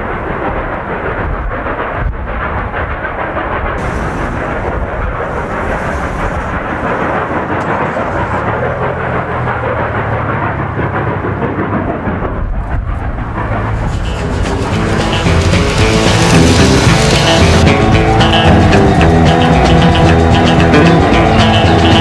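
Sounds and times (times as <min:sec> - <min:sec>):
distant steam locomotive exhaust: 0:00.0 - 0:22.0.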